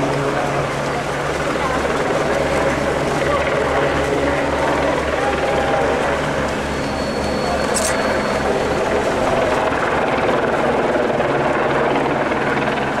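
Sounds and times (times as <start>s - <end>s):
helicopter rotor beat: 0.0s - 13.0s.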